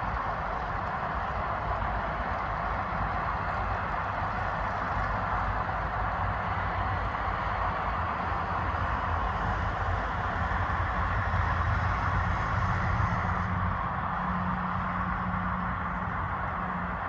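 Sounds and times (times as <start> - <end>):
traffic hiss: 0.0 - 17.0
vehicle engine drone: 0.0 - 17.0.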